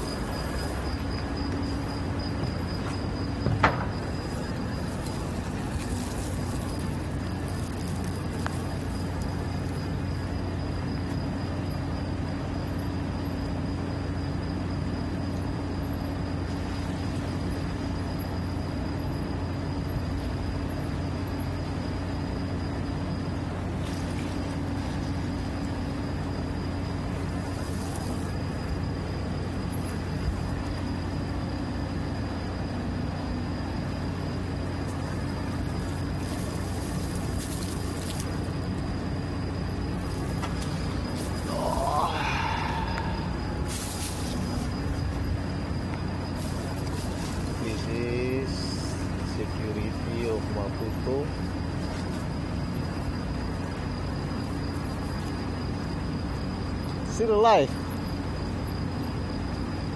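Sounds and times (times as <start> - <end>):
machinery drone with high whine: 0.0 - 59.9.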